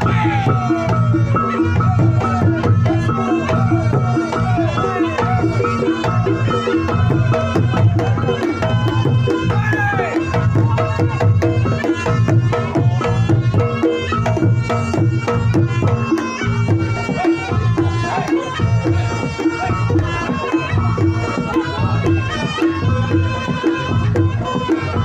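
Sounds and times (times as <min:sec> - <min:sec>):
hand drums driving rhythm: 0:00.0 - 0:25.0
sustained melody line: 0:00.0 - 0:25.0.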